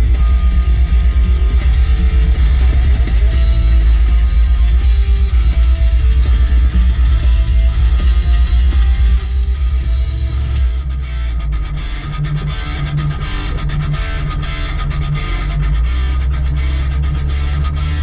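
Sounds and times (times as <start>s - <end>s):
rock music with guitar and drums: 0.0s - 18.0s.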